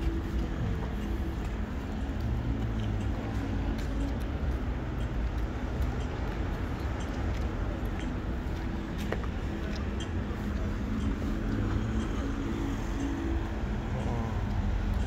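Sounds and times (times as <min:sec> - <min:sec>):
city traffic rumble: 0:00.0 - 0:15.0
faint scattered clicks: 0:00.0 - 0:15.0.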